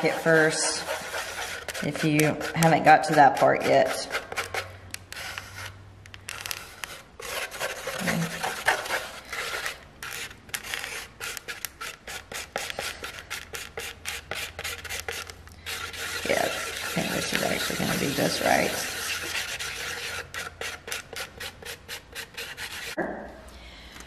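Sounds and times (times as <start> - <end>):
palette knife scraping paint: 0.0 - 23.0.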